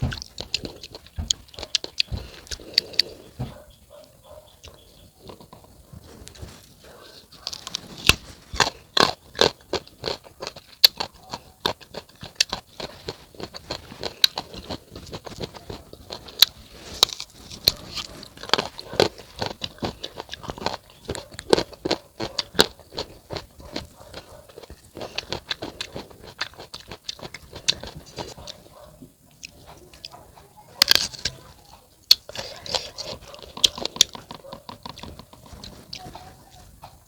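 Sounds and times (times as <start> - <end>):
crunching and chewing fruit: 0.0 - 37.0.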